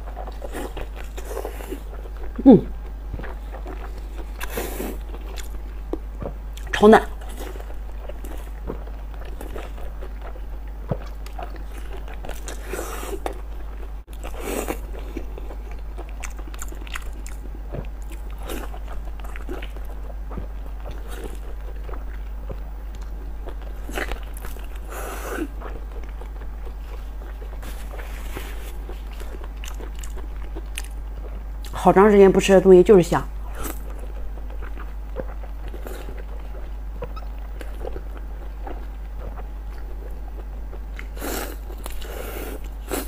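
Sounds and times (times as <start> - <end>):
wet chewing mouth noises: 0.0 - 31.8, 33.4 - 43.0
steady low hum: 0.0 - 43.0.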